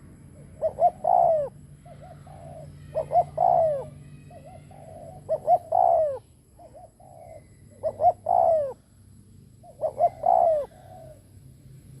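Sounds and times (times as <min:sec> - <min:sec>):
dove cooing: 0:00.0 - 0:09.0, 0:09.6 - 0:11.4.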